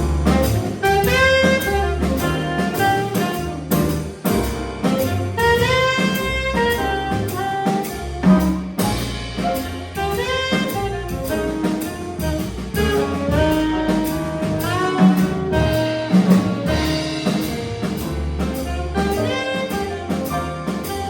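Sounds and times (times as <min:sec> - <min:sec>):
bass: 0:00.0 - 0:21.0
drum kit: 0:00.0 - 0:21.0
sliding jazz melody line: 0:00.0 - 0:21.0.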